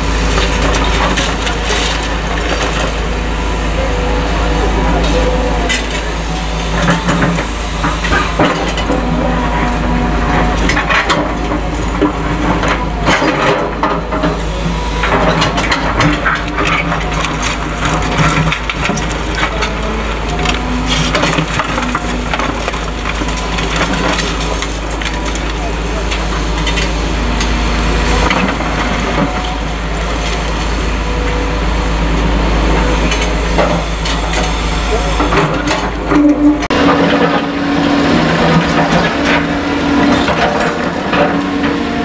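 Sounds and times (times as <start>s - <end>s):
excavator diesel engines running: 0.0s - 42.0s
wood and debris cracking: 0.2s - 3.2s, 5.0s - 30.8s, 35.2s - 42.0s.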